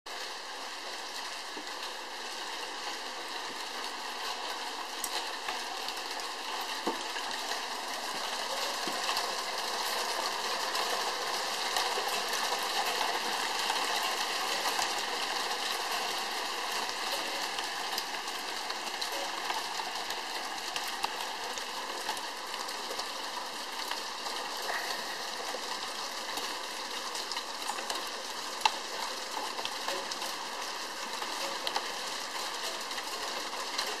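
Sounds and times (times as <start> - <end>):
hail and rain on roof tiles: 0.1 - 34.0.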